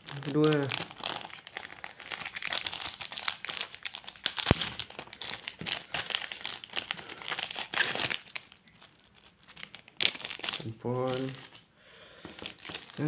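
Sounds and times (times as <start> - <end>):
plastic wrapper crinkling and tearing: 0.0 - 13.0.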